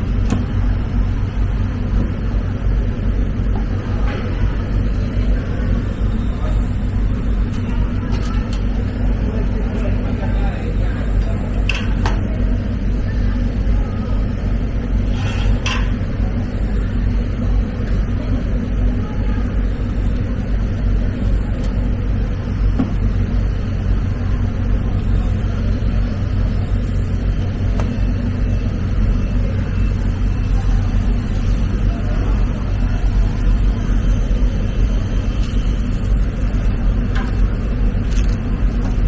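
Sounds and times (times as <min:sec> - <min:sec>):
machinery hum and rumble: 0:00.0 - 0:39.0.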